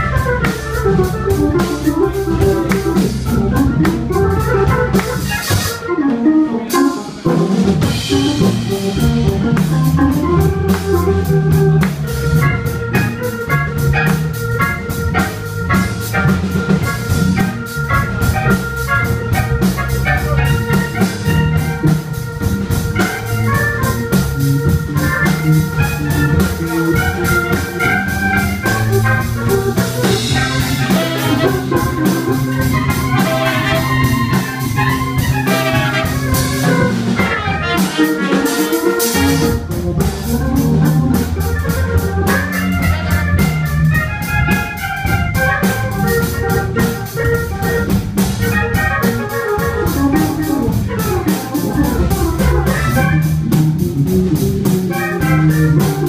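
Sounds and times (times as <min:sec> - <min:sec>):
drum kit: 0:00.0 - 0:56.0
jazz funk band playing: 0:00.0 - 0:56.0
organ: 0:00.0 - 0:56.0.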